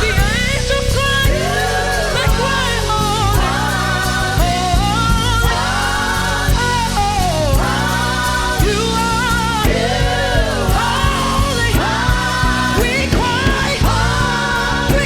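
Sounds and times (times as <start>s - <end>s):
keyboard and bass chords: 0.0s - 15.0s.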